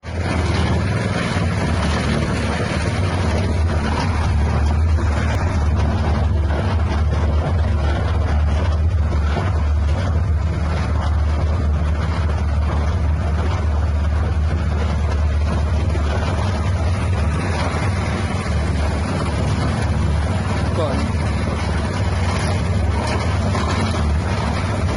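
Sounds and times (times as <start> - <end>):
feed mixer machine droning: 0.0 - 24.9.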